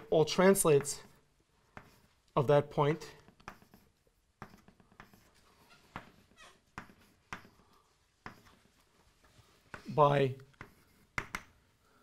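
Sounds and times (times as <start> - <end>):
chalk tapping and scratching: 0.0 - 11.7.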